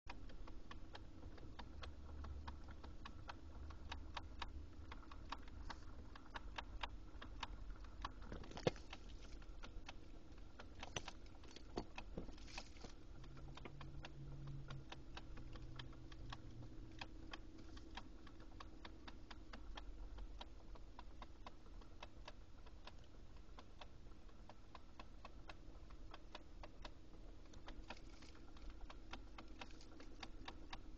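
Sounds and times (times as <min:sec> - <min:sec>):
faint steady hum: 0:00.1 - 0:30.9.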